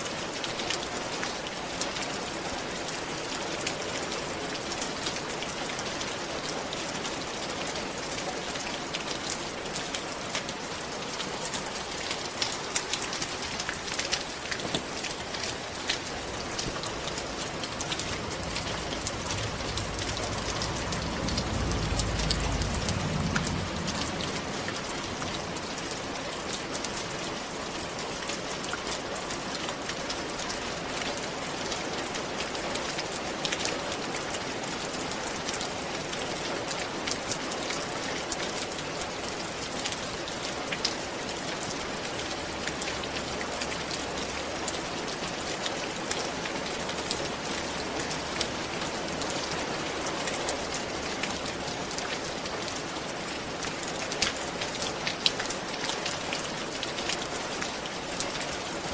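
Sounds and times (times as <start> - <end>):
rain falling on roof: 0.0 - 58.9.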